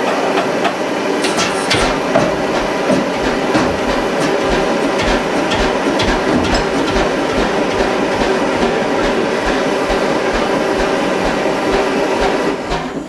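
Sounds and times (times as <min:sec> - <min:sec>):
mechanical clatter: 0:00.0 - 0:13.0
single-cylinder engine running: 0:00.3 - 0:13.0.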